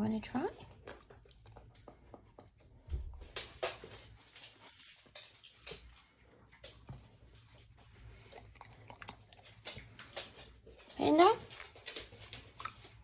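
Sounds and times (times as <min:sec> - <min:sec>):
dog claws tapping on floor: 0:00.7 - 0:07.7, 0:09.0 - 0:13.0.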